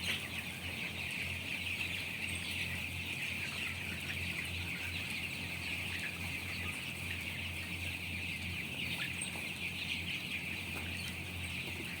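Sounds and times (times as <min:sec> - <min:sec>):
chicks chirping: 0:00.0 - 0:12.0.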